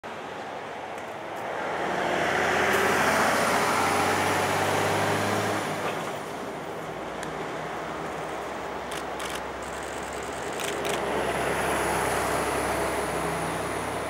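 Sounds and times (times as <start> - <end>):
tyre and road noise: 0.1 - 14.0
diesel truck engine: 2.4 - 14.0.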